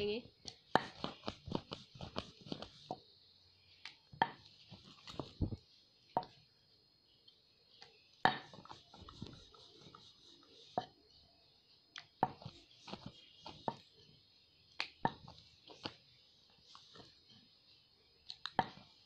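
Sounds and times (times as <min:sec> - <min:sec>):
rolling pin rolling dough: 0:00.2 - 0:06.7, 0:07.4 - 0:19.0.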